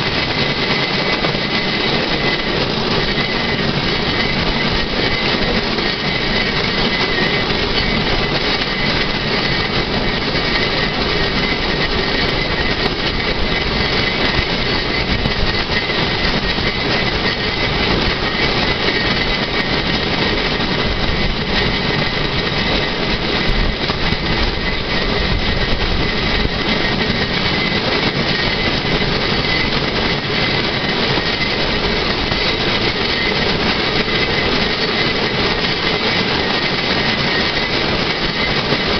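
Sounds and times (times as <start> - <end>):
steel wheels rattling on rails: 0.0 - 38.9.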